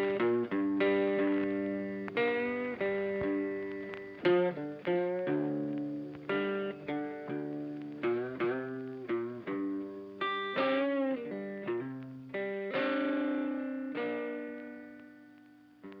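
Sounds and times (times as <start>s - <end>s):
guitar picking notes with effects: 0.0s - 16.0s.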